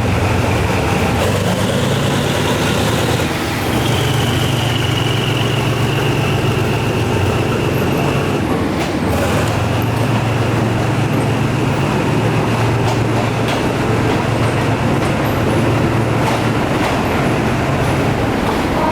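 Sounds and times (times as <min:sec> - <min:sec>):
diesel locomotive engine rumbling: 0:00.0 - 0:18.9.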